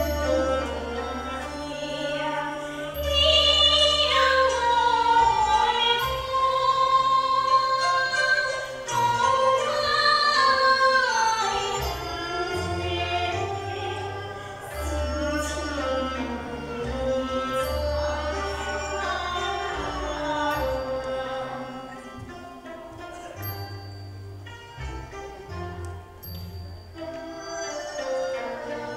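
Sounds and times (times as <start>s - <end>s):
woman singing opera: 0.0s - 23.4s
instrumental accompaniment: 0.0s - 28.9s.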